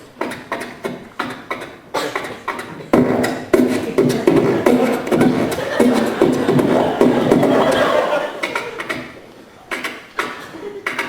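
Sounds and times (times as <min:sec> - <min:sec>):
person beatboxing into microphone: 0:00.0 - 0:11.0.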